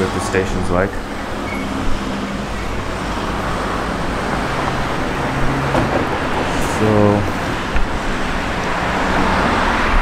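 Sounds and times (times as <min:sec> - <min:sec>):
light road traffic: 0:00.0 - 0:10.0.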